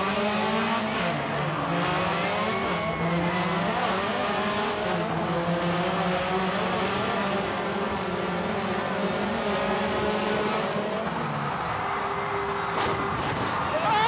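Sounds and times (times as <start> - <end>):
rally car engine revving: 0.0 - 11.6.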